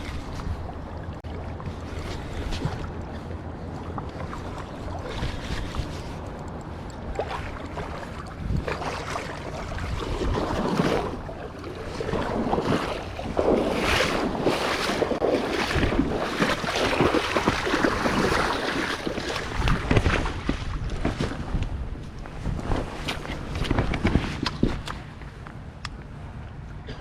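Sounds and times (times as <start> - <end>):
water churning and splashing: 0.0 - 25.2
wind buffeting microphone: 0.0 - 26.3.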